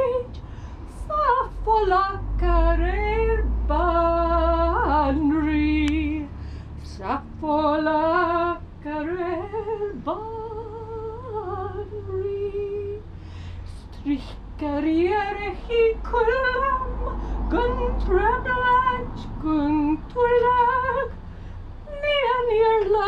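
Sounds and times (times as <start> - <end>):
woman singing unaccompanied: 0.0 - 13.1, 13.7 - 21.2, 21.8 - 23.0.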